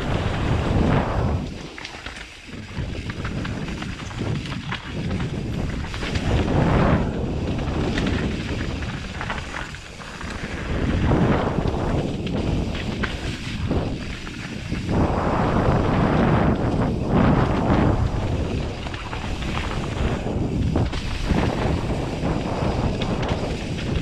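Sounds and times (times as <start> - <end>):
bike rattling over stones: 0.0 - 24.0
wind rumbling on microphone: 0.0 - 24.0.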